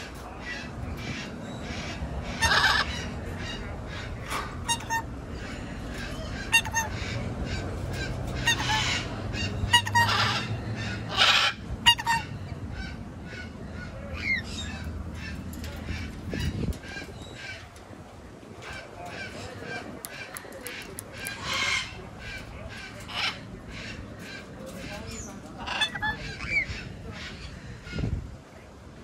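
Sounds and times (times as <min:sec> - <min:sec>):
parrots squawking: 0:00.4 - 0:17.7, 0:18.6 - 0:28.0.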